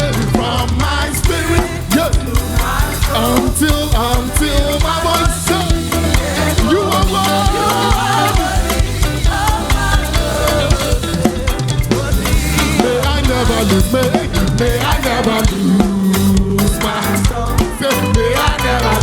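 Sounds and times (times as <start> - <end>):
upbeat live band music: 0.0 - 19.0.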